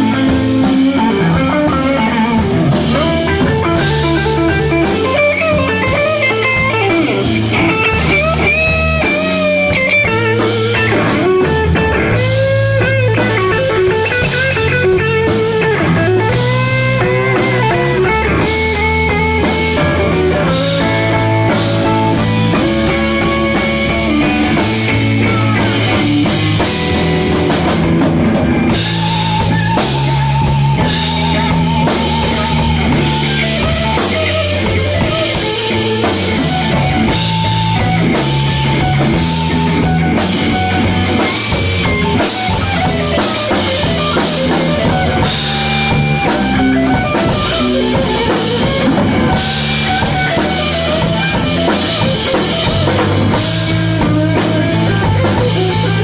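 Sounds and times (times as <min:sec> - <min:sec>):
bass: 0:00.0 - 0:56.0
drum kit: 0:00.0 - 0:56.0
electric guitar melody: 0:00.0 - 0:56.0.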